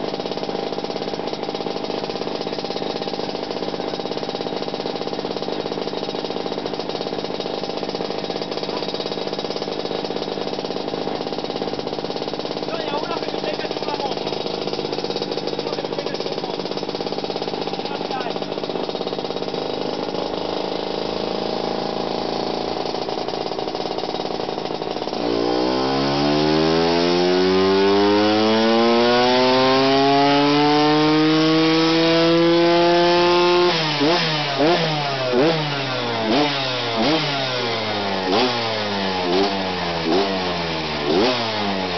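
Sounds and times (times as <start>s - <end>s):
scooter engine revving on dyno: 0.0s - 41.9s.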